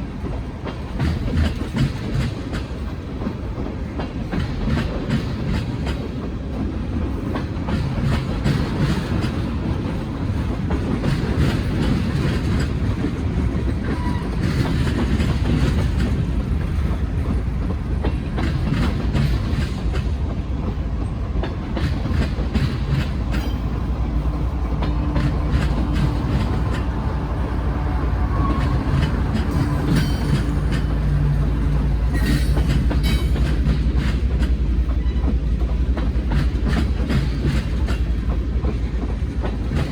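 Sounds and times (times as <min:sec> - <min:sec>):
freight train cars rolling past: 0:00.0 - 0:39.9
wheels clicking over rail joints: 0:00.0 - 0:39.9.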